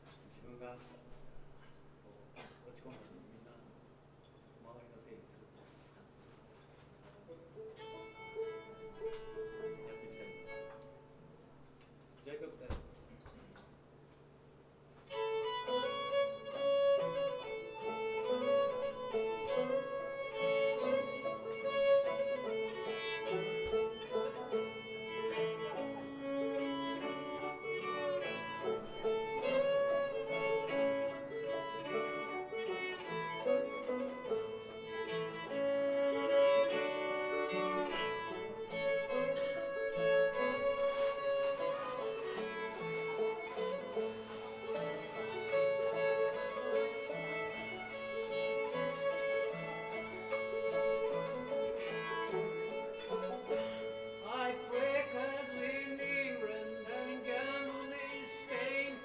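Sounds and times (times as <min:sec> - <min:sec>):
string band playing fiddle tune: 0:07.3 - 0:11.6, 0:15.0 - 0:59.0.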